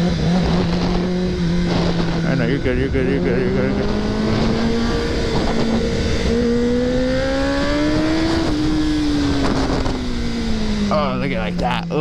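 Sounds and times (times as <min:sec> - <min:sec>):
wind rush: 0:00.0 - 0:10.9
motorcycle engine accelerating: 0:00.0 - 0:12.0.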